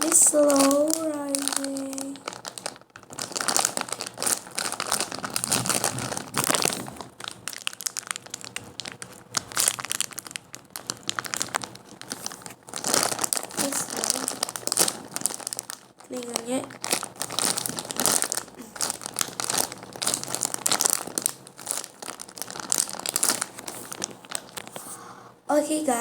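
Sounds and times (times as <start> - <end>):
foam toy crinkling and rustling: 0.0 - 25.0.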